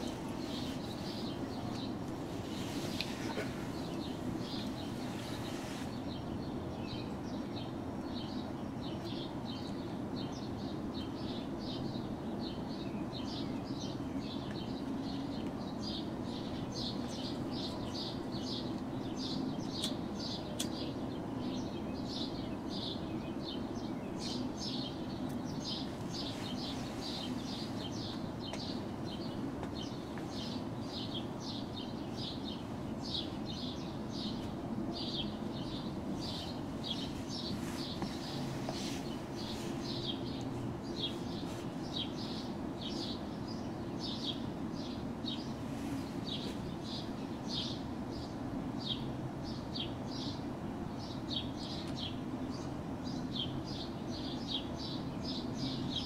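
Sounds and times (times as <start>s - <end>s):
low background hum: 0.0s - 56.0s
small birds chirping: 0.0s - 56.0s.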